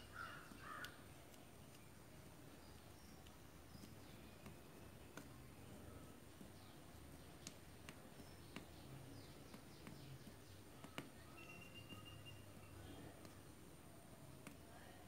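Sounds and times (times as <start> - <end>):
faint background hiss: 0.0 - 15.0
soft clicks: 0.5 - 13.7.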